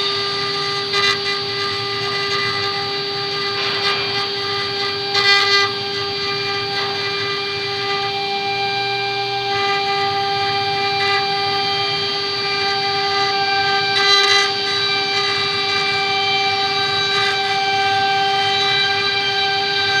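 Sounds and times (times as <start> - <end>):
bit cutting wood: 0.0 - 20.0
router spindle whine: 0.0 - 20.0.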